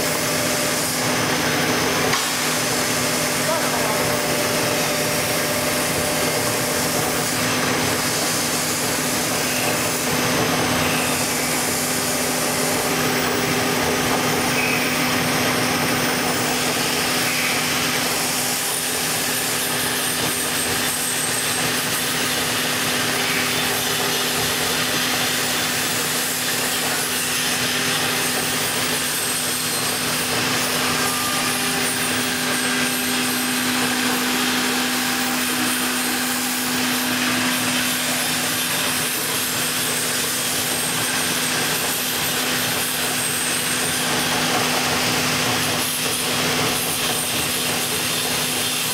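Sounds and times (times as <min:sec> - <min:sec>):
router motor hum: 0:00.0 - 0:48.9.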